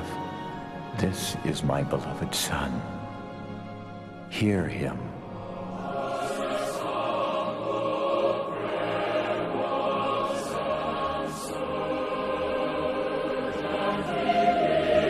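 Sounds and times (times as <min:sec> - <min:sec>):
choir singing held chords: 0:02.9 - 0:15.0.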